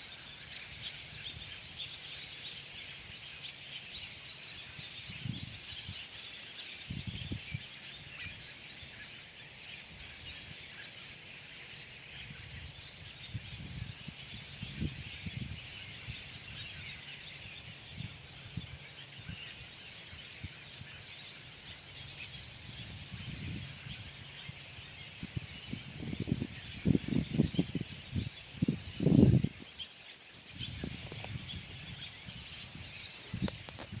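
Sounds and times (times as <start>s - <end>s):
flock of birds chirping: 0.0s - 34.0s.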